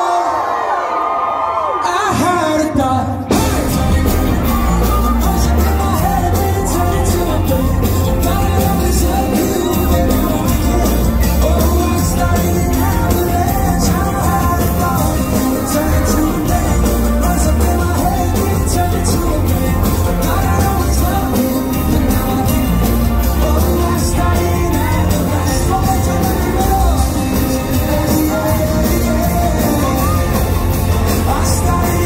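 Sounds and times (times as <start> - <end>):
live pop band playing: 0.0 - 32.0
man singing: 1.8 - 32.0
heavy bass: 2.3 - 32.0
steady drum beat: 3.2 - 32.0.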